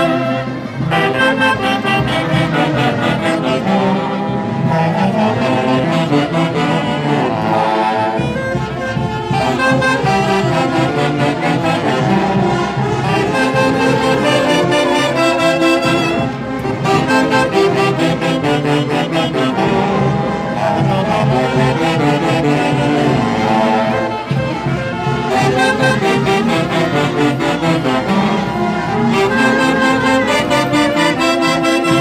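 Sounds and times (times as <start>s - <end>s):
brass band playing festive music: 0.0s - 32.0s.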